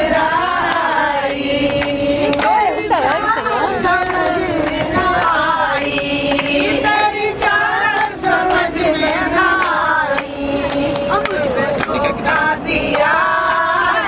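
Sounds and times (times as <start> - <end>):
rhythmic hand-clapping: 0.0 - 14.0
women singing together: 0.0 - 14.0.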